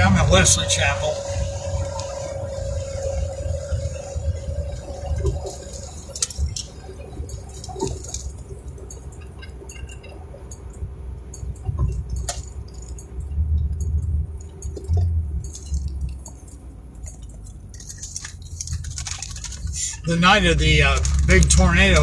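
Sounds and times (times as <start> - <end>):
road rumble inside moving car: 0.0 - 22.0
small clicks and rattles: 1.1 - 20.1, 20.8 - 22.0.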